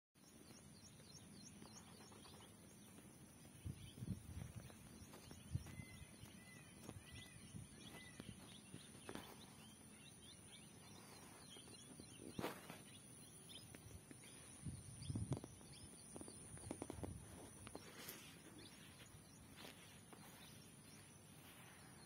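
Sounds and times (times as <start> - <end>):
bird chirps: 0.2 - 22.0
steady high-pitched hiss: 0.3 - 22.0.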